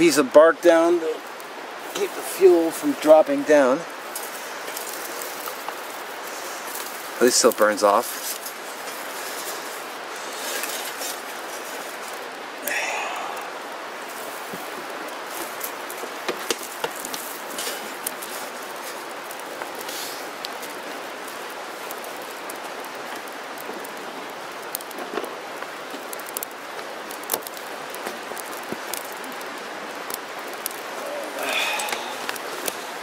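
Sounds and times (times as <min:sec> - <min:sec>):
fire popping: 0:00.0 - 0:33.0
twigs burning and crackling: 0:00.0 - 0:33.0.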